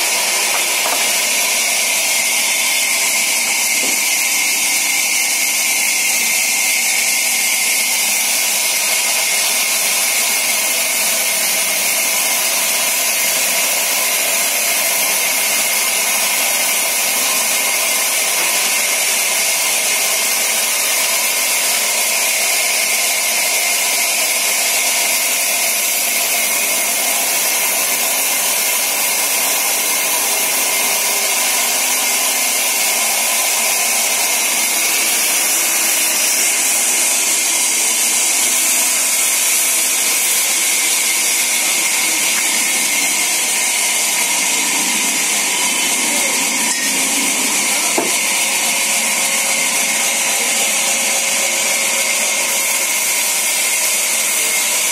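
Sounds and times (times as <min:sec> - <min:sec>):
band saw running: 0:00.0 - 0:54.9.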